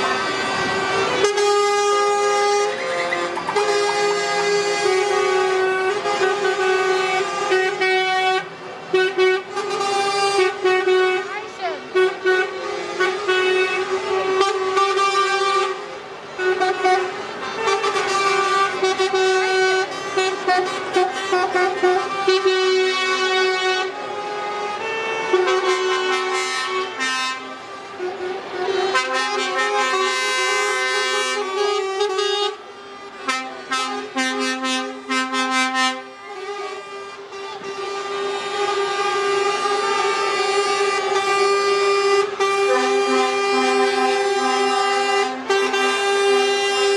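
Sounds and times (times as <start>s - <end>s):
lorry air horns: 0.0s - 46.9s.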